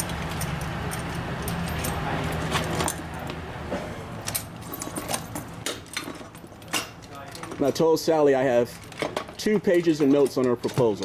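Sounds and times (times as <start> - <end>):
metal parts clinking: 0.0 - 3.3, 4.2 - 11.0
low mechanical hum: 0.0 - 10.9.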